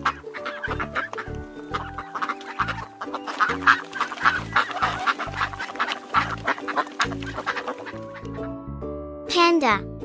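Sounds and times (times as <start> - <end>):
duck quacking: 0.0 - 8.5.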